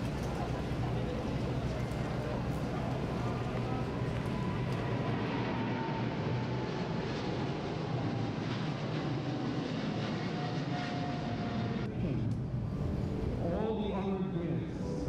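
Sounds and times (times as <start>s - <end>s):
aircraft engines rushing: 0.0s - 15.0s
faint engine whine: 0.0s - 15.0s.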